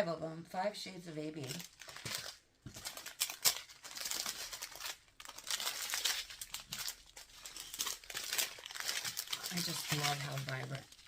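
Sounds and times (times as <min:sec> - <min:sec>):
plastic bags crinkling: 0:01.4 - 0:11.0.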